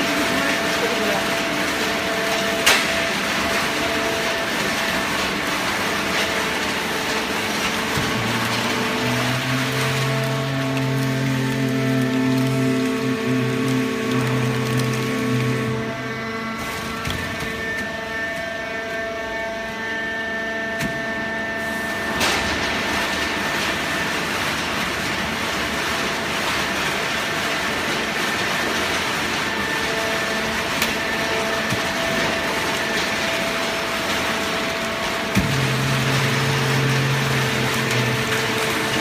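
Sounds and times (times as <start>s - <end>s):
baling machine humming: 0.0s - 39.0s.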